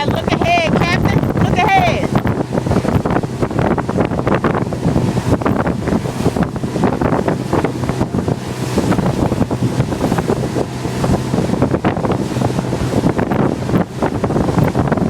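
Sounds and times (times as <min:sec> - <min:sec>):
low engine hum: 0:00.0 - 0:15.0
water slapping against hull: 0:00.0 - 0:15.0
wind buffeting microphone: 0:00.0 - 0:15.0.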